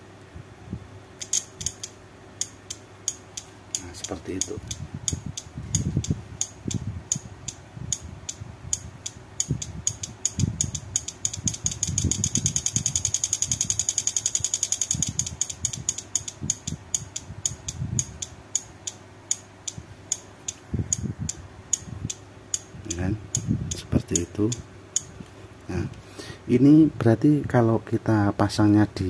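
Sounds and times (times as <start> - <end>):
relay clicking on and off: 1.2 - 25.1.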